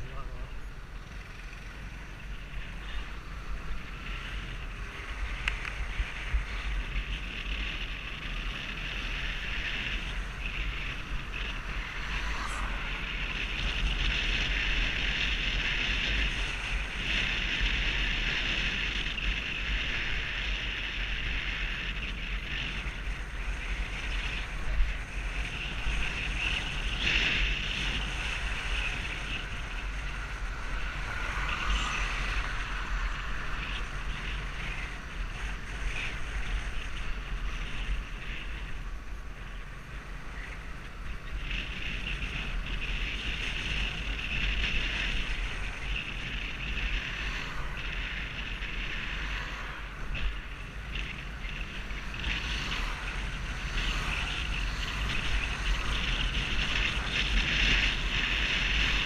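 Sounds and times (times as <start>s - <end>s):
wind rush over microphone: 0.0s - 59.0s.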